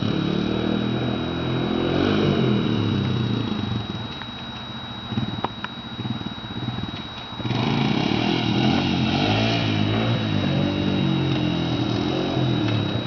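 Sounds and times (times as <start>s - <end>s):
atv engine revving: 0.0s - 4.0s, 5.1s - 13.0s.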